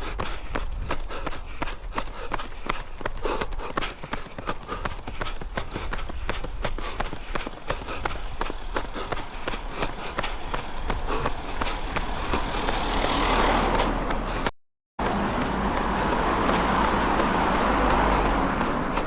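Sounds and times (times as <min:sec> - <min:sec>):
road vehicles passing: 0:00.0 - 0:19.0
runners' footsteps on road: 0:00.0 - 0:19.0.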